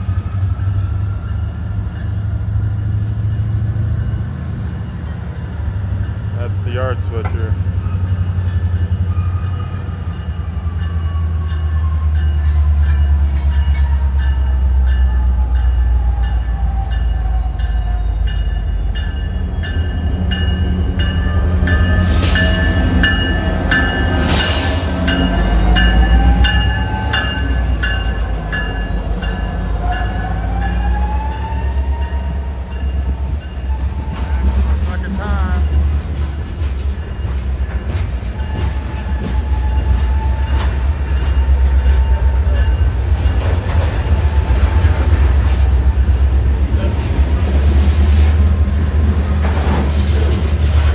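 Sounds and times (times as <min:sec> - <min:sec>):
diesel train rumble: 0:00.0 - 0:50.9.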